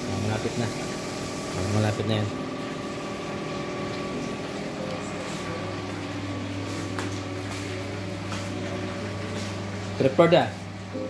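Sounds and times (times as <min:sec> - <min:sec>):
kitchen appliances humming: 0:00.0 - 0:11.0.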